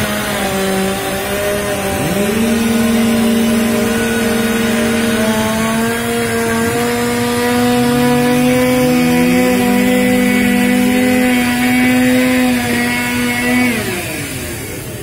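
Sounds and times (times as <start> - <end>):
chainsaw engine at full throttle: 0.0 - 15.0.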